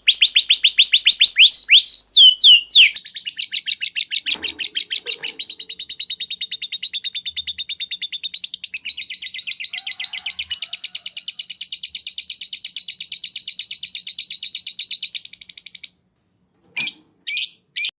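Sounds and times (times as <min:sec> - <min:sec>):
cage bird trilling: 0:00.0 - 0:15.9, 0:16.8 - 0:17.9.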